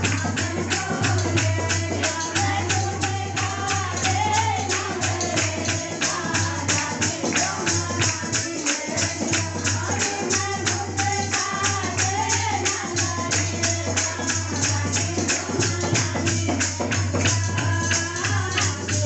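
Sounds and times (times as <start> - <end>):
tambourine beat: 0.0 - 19.0
women singing devotional song: 0.0 - 19.0.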